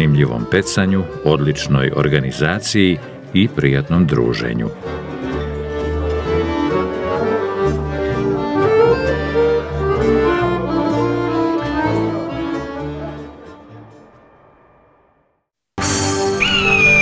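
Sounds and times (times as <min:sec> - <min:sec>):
instrumental music: 0:00.0 - 0:14.5, 0:15.8 - 0:17.0.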